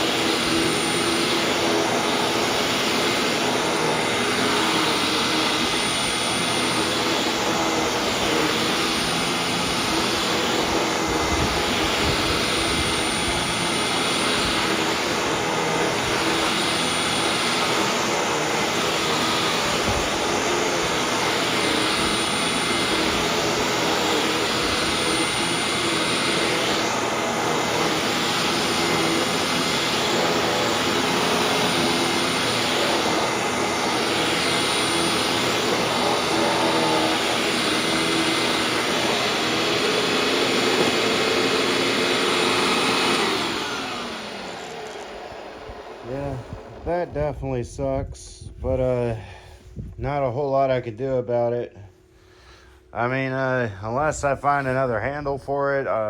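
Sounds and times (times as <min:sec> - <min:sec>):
vacuum cleaner running: 0:00.0 - 0:50.8.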